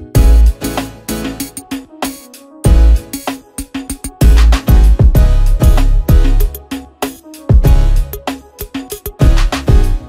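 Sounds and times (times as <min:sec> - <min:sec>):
music with heavy kick drum and bass: 0:00.0 - 0:10.0.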